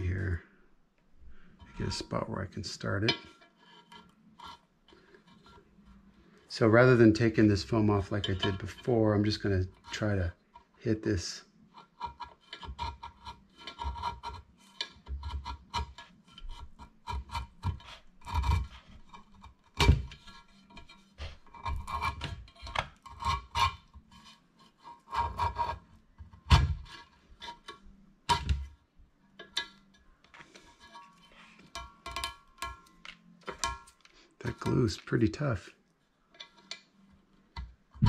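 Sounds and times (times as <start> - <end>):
chisel scraping: 1.3 - 28.7, 29.3 - 35.6, 36.2 - 38.0.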